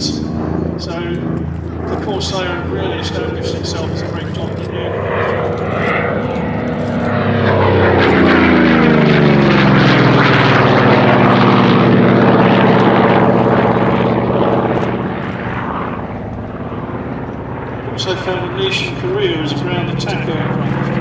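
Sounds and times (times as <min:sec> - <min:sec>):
propeller plane engine flypast: 0:00.0 - 0:21.0.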